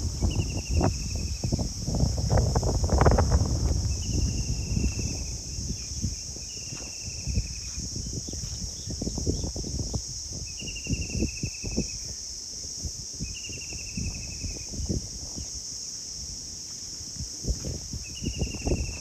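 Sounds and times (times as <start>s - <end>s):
wind buffeting microphone: 0.0s - 12.2s, 12.8s - 15.6s, 17.0s - 19.0s.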